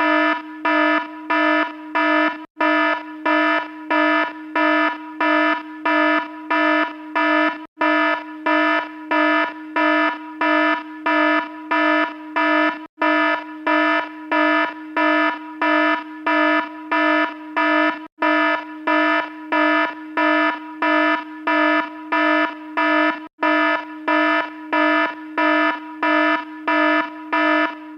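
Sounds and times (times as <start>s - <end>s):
electronic alarm beeping: 0.0s - 27.9s
quiet held alarm tone: 0.0s - 27.9s.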